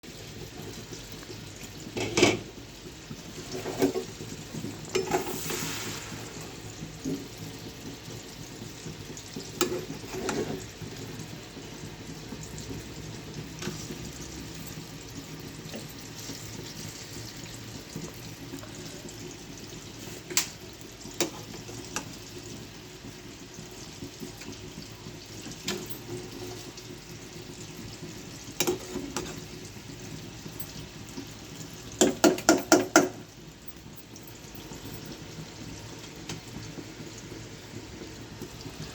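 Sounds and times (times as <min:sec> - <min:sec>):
water running at sink: 0:00.3 - 0:19.9, 0:21.1 - 0:38.9.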